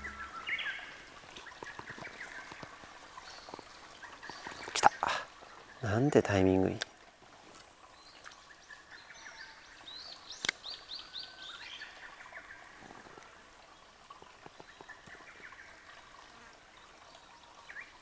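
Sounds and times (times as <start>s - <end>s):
faint birdsong chirping: 0.0s - 6.8s, 7.6s - 18.0s.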